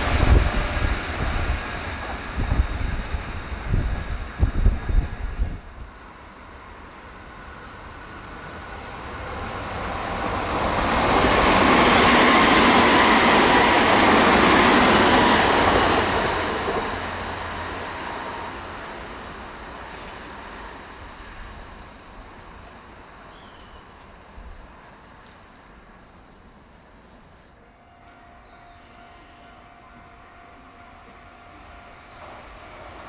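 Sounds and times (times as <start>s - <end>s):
faint train whine: 0.0s - 33.0s
train passing through station: 0.0s - 33.0s.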